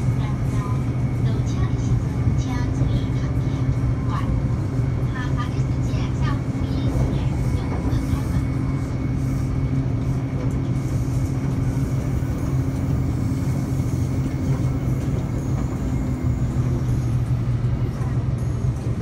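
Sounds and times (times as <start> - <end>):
train motor hum: 0.0 - 19.0
train wheels rumbling on rail: 0.0 - 19.0.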